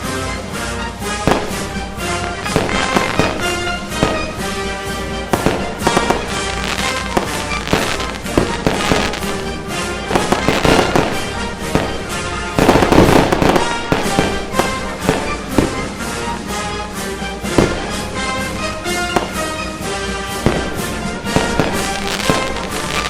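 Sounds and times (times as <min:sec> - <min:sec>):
background music: 0:00.0 - 0:23.0
fireworks bangs and crackles: 0:00.0 - 0:23.0.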